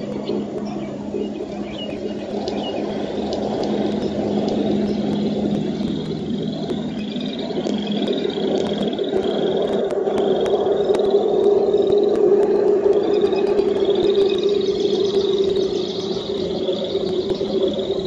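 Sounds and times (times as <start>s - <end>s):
dense frog chorus din: 0.0s - 18.0s
frogs trilling: 0.0s - 18.0s.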